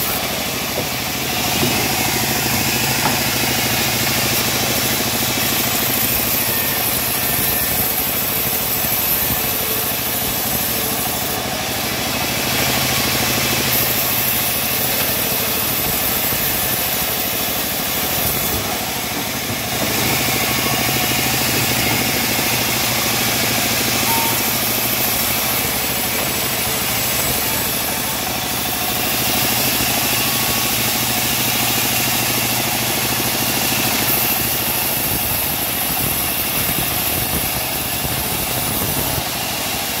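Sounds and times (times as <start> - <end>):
bandsaw machine hum: 0.0 - 40.0
bandsaw blade cutting hiss: 1.0 - 11.4, 12.6 - 40.0.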